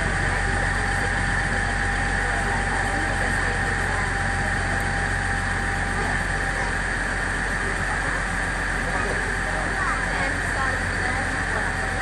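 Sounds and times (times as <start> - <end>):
boat engine low drone: 0.0 - 12.0
thin engine whine: 0.0 - 12.0.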